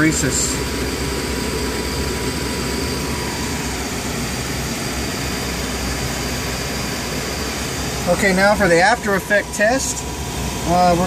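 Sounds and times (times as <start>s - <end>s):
cockpit hum and air rush: 0.0s - 11.0s
faint high whine: 0.0s - 11.0s.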